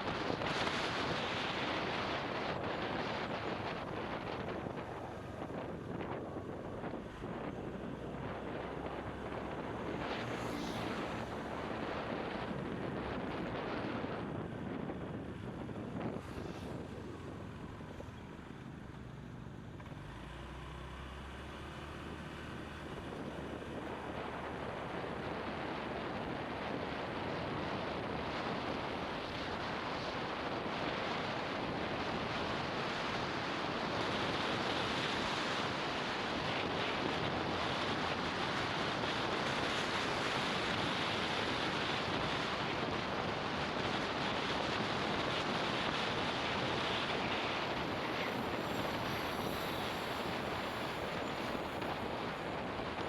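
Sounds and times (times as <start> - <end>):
wind rushing over microphone: 0.0 - 19.0, 21.5 - 53.0
road noise: 0.0 - 53.0.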